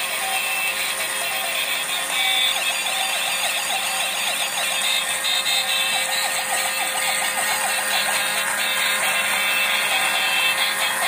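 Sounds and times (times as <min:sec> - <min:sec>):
toy electronic siren warbling: 0:00.1 - 0:11.0.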